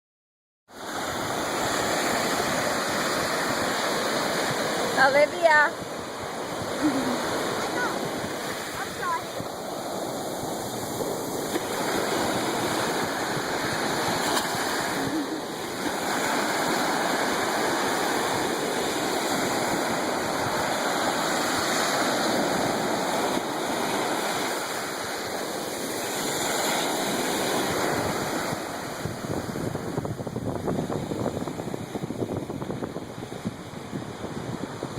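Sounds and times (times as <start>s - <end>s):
ocean waves washing: 0.7s - 34.9s.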